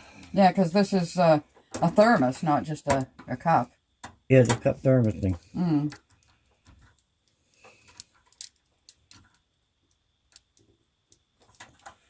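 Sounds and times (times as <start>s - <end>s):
small tools clicking and tapping: 1.5s - 3.4s, 4.0s - 12.0s.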